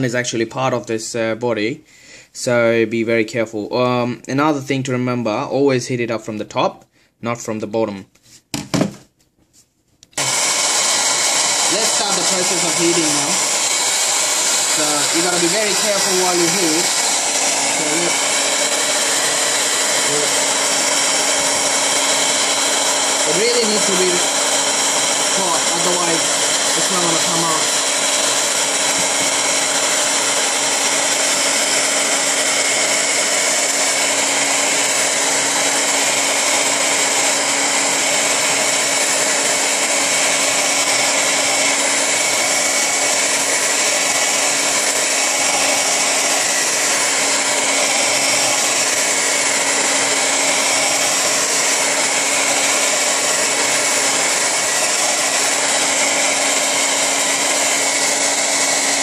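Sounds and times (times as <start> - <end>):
hair dryer blowing: 10.1 - 59.0.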